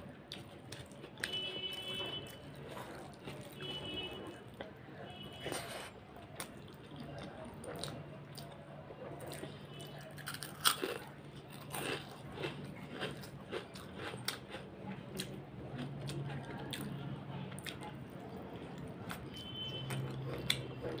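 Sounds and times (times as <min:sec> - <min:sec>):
wet chewing: 0:00.3 - 0:21.0.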